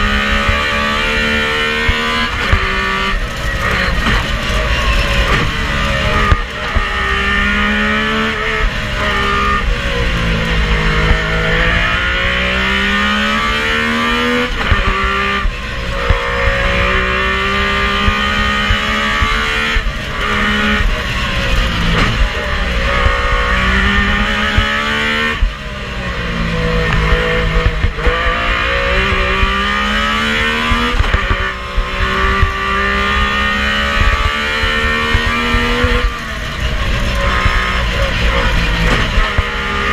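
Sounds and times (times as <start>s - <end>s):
rally car engine revving through gears: 0.0s - 39.9s.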